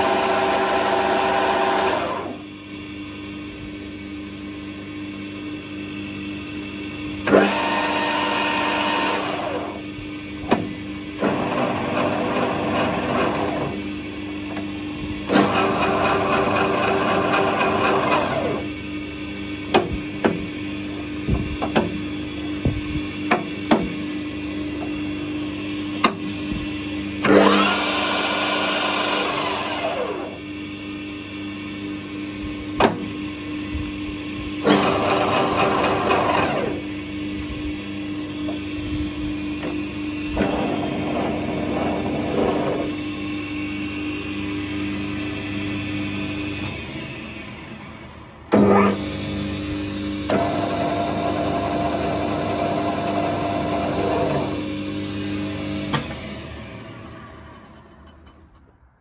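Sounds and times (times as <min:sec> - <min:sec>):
lathe gears whirring: 0:00.0 - 0:02.6, 0:07.2 - 0:30.5, 0:34.5 - 0:58.7
lathe motor humming: 0:00.0 - 0:06.5, 0:07.1 - 0:32.8, 0:34.4 - 0:57.5.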